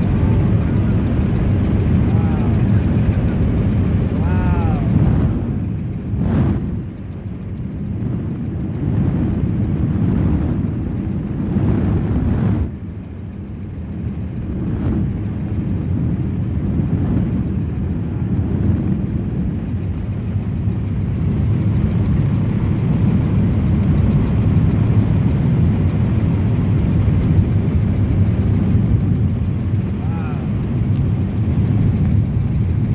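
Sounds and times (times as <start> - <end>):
helicopter rotor and engine drone: 0.0 - 32.9.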